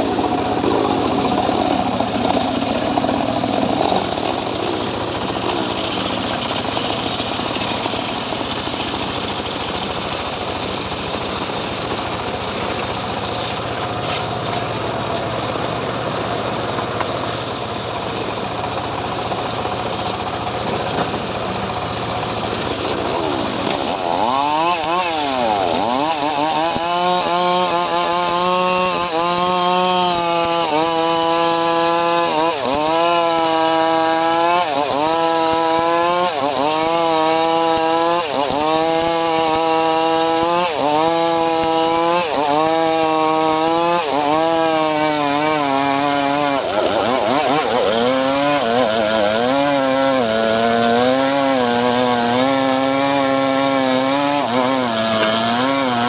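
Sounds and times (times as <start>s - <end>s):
engine-driven saw cutting wood: 0.0s - 56.0s.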